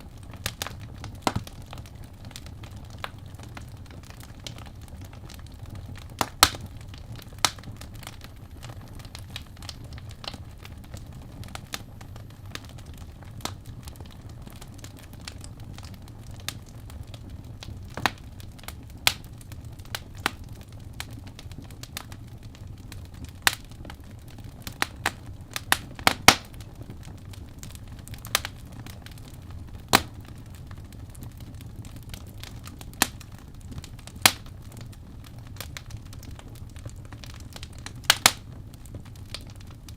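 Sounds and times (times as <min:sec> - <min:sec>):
fire crackles and pops: 0:00.0 - 0:39.9
low rumble of flames: 0:00.0 - 0:39.9.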